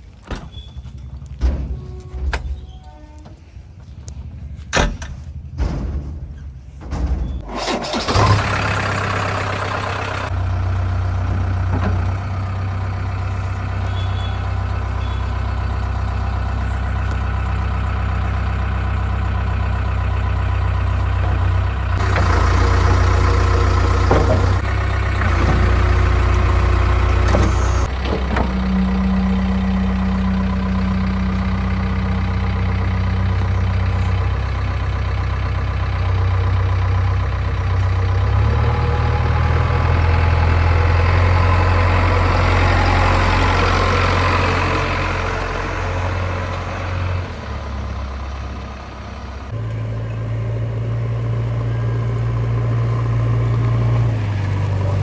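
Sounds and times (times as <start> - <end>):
hydraulics humming: 0.0 - 55.0
diesel engine starting and revving: 7.3 - 55.0.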